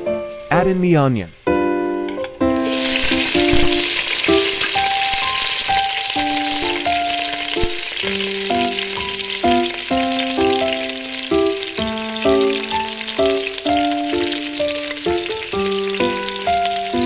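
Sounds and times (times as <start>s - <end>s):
background music with melody: 0.0s - 17.0s
onions sizzling in oil: 2.5s - 17.0s.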